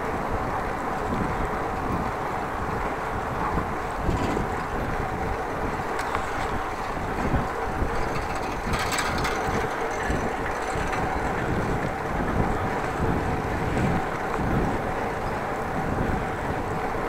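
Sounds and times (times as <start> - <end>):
bicycle rolling and rattling: 0.0 - 17.0
wind buffeting microphone: 0.0 - 17.0.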